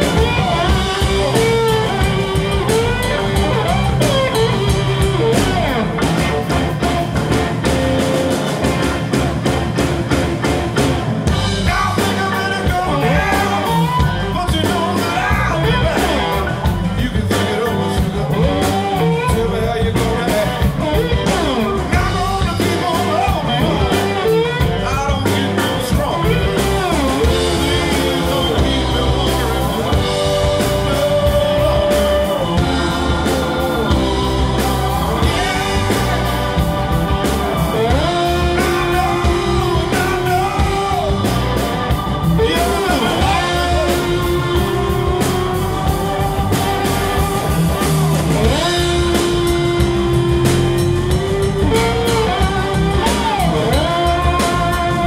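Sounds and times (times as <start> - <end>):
man singing: 0.0 - 6.6, 11.3 - 55.0
bass: 0.0 - 55.0
drums: 0.0 - 55.0
electric guitar: 0.0 - 55.0
organ: 0.0 - 55.0
slide guitar: 0.0 - 55.0.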